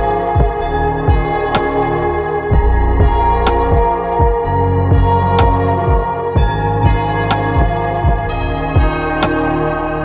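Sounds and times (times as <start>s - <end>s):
pulsing bass: 0.0s - 10.0s
sustained synth tones: 0.0s - 10.0s.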